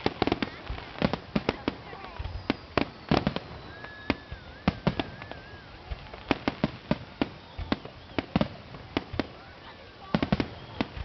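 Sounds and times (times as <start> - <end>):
firework whistle: 0.0 - 11.0
fireworks bangs and crackles: 0.0 - 11.0.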